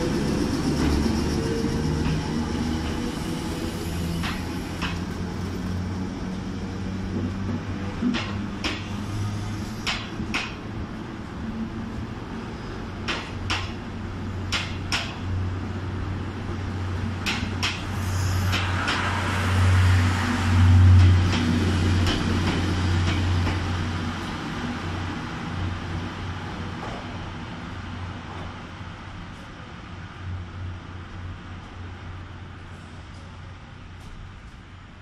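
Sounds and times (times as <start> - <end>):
train coaches rolling by: 0.0 - 35.0.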